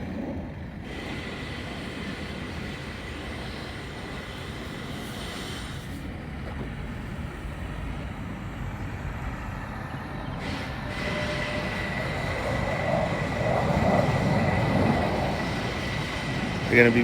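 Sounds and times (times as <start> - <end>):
high jet whine: 0.0 - 17.0
jet engine rumble: 0.0 - 17.0.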